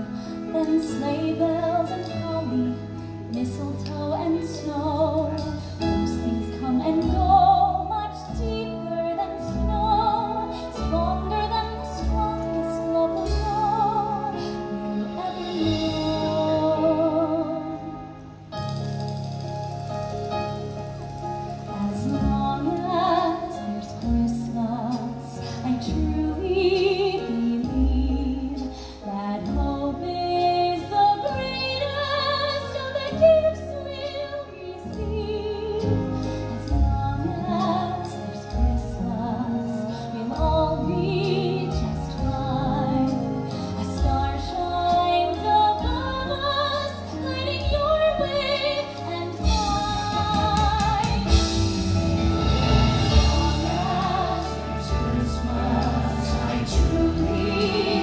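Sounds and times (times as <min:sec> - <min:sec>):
music accompaniment: 0:00.0 - 0:58.0.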